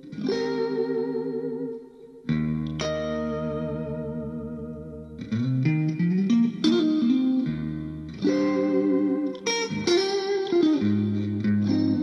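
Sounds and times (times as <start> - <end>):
guitar riff with effects: 0.0 - 12.0.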